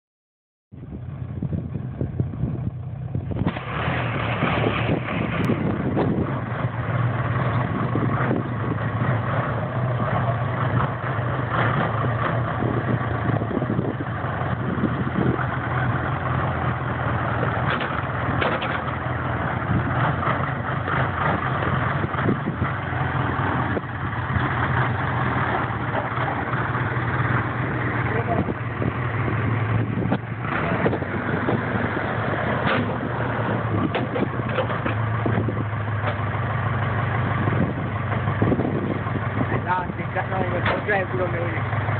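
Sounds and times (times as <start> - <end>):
diesel engine droning: 0.7 - 41.9.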